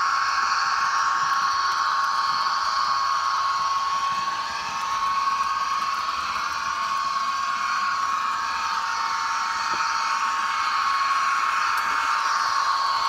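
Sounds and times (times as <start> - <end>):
model train motor whine: 0.0 - 13.0
wheels rolling on rails: 0.0 - 13.0.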